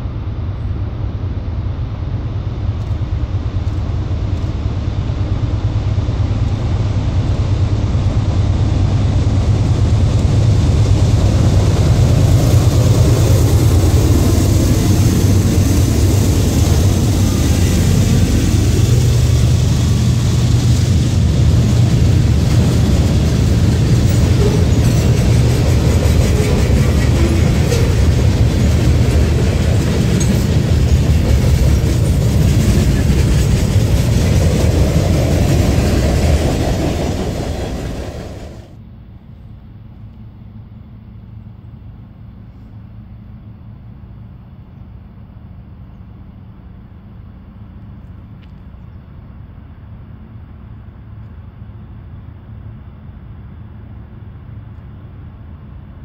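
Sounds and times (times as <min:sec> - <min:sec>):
diesel locomotives passing: 0:00.0 - 0:56.0
train wheels rumbling on rail: 0:00.0 - 0:56.0.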